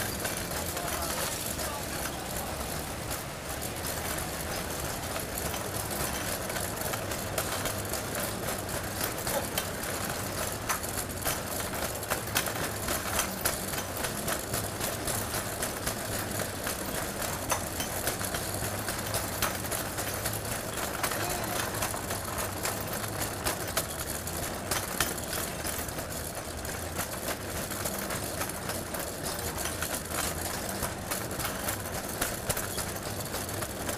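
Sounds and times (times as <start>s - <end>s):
traffic hum: 0.0s - 33.9s.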